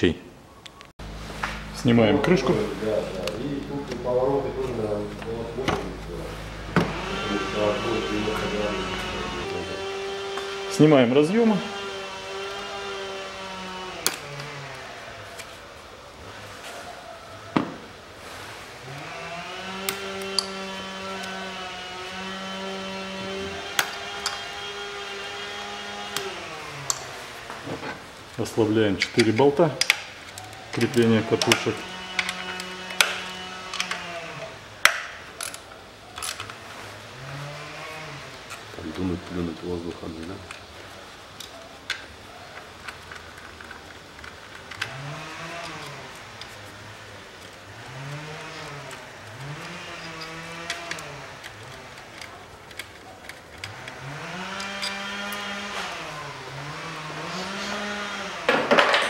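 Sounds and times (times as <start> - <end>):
motor humming: 1.0 - 16.4, 18.2 - 28.3, 30.2 - 35.2, 36.5 - 40.3, 43.9 - 58.7.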